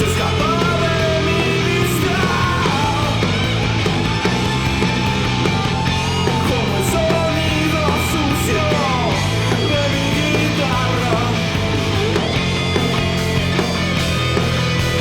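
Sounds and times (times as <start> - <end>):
rock music: 0.0 - 15.0
sliding guitar lead line: 0.0 - 15.0.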